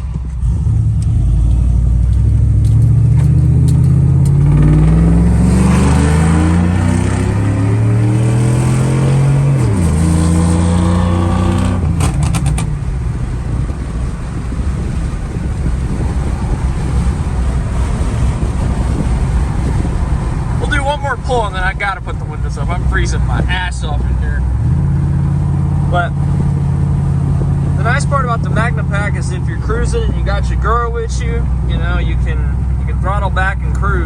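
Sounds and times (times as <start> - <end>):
car engine exhaust at full throttle: 0.0 - 34.0.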